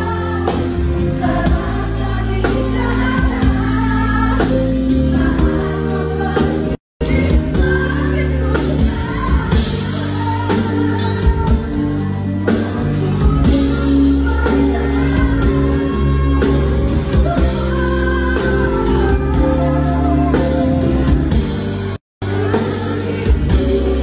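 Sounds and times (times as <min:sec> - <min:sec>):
woman singing into microphone: 0:00.0 - 0:21.6, 0:22.2 - 0:24.0.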